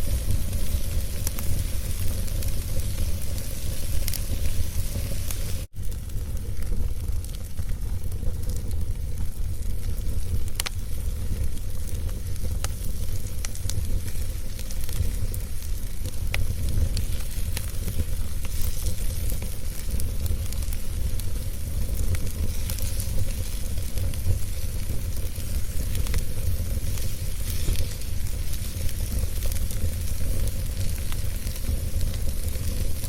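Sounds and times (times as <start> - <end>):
fire crackling in fireplace: 0.0 - 33.0
sharp pops of fire: 0.0 - 33.0.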